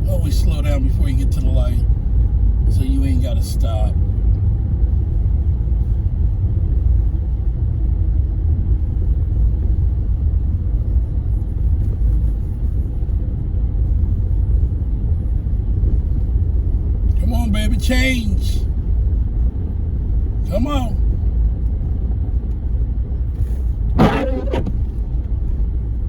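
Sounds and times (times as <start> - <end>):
car cabin rumble: 0.0 - 26.0.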